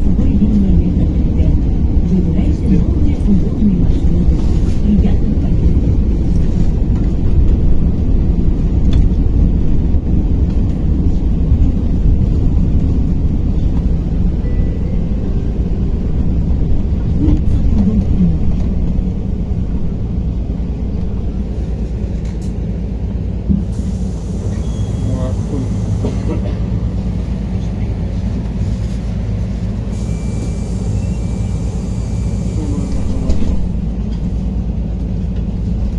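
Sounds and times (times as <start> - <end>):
bus cabin road rumble: 0.0 - 35.9.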